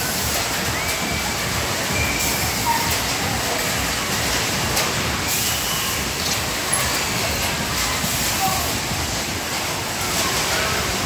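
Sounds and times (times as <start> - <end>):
pendulum ride rushing noise: 0.0 - 11.0.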